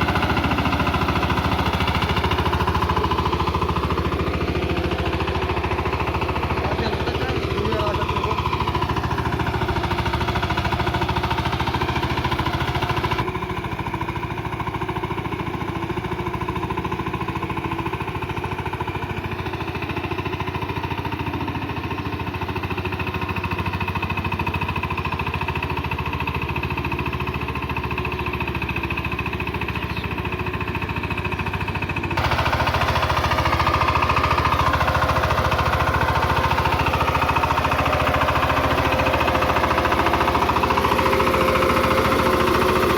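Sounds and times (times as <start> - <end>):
diesel tiller engine running: 0.0 - 42.9.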